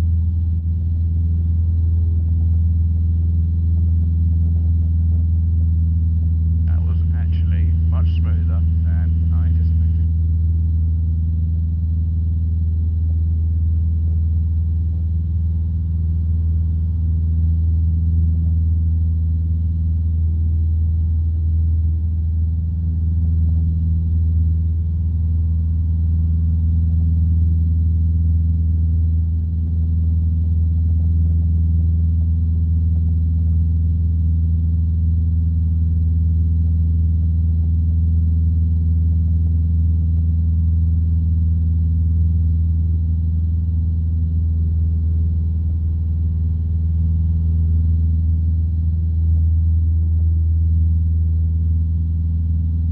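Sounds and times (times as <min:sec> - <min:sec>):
propeller plane engine droning: 0:00.0 - 0:52.9.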